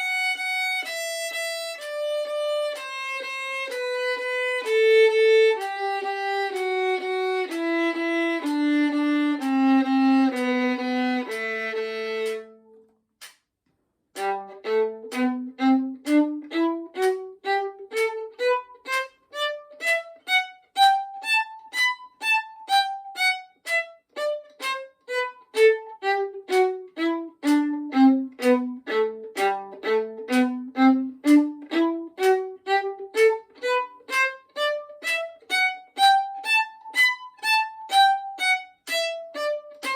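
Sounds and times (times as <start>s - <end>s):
solo violin playing scales: 0.0s - 12.8s, 14.2s - 39.9s.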